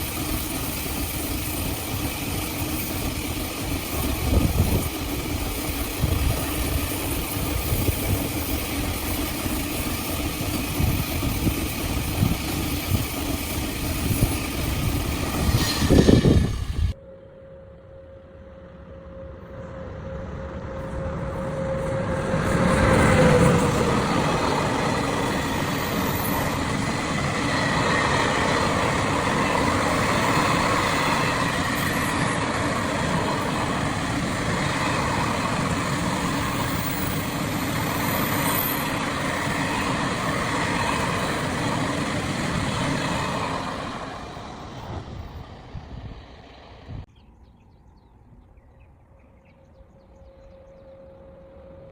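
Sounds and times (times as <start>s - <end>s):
freight train passing: 0.0s - 51.9s.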